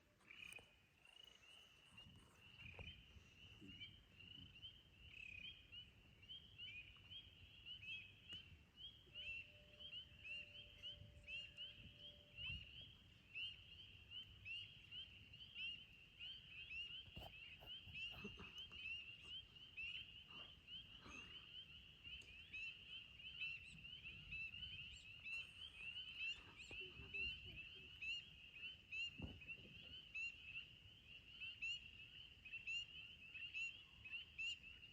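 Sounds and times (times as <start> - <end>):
frogs peeping chorus: 0.2 - 34.9.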